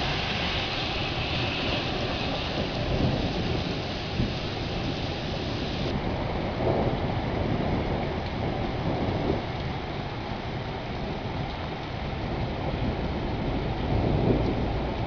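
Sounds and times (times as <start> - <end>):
deep thunder rumble: 0.0 - 15.0
heavy rain: 0.0 - 15.0
strong gusting wind: 0.0 - 15.0.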